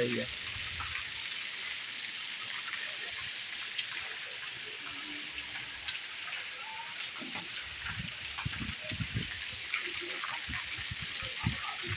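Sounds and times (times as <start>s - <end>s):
steady rain hissing: 0.0s - 11.9s.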